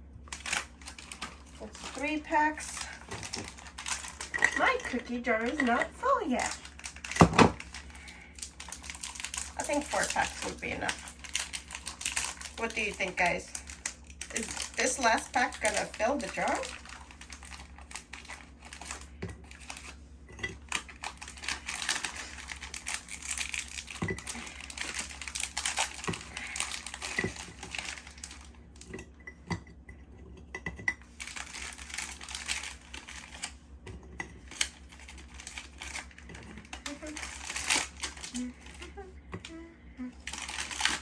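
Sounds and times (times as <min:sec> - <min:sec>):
plastic packaging crinkling: 0:00.2 - 0:29.0, 0:31.0 - 0:39.6, 0:40.2 - 0:41.0.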